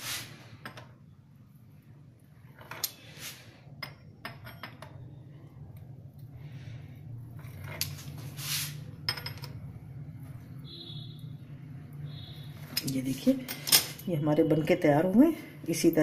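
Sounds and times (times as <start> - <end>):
low steady hum: 0.4 - 16.0.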